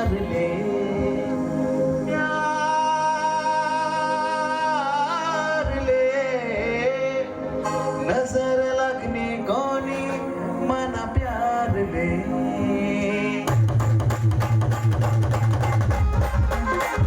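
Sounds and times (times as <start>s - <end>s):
keyboard backing: 0.0s - 17.0s.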